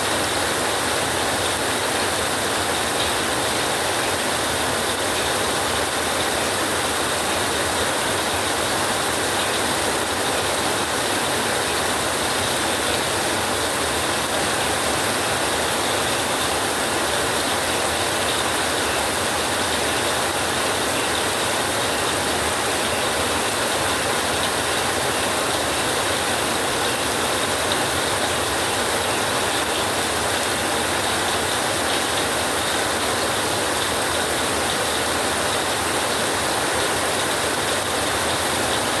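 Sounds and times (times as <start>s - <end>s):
heavy rain on a tin roof: 0.0s - 39.0s.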